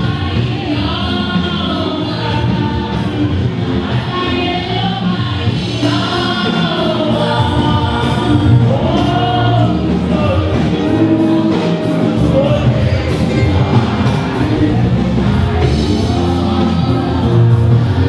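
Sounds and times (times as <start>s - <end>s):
choir singing: 0.0s - 18.0s
instrumental backing with beat: 0.0s - 18.0s.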